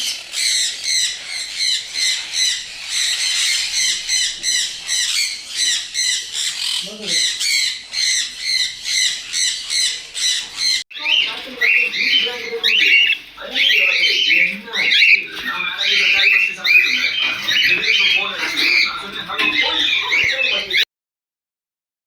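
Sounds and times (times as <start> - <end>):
parrots squawking: 0.0 - 20.9.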